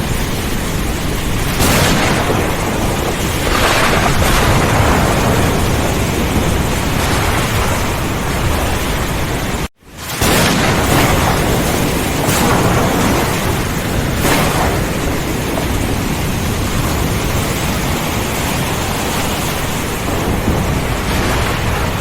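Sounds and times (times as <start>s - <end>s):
deep thunder rumble: 0.0s - 22.0s
heavy rain: 0.0s - 22.0s
sharp crackle: 0.1s - 22.0s.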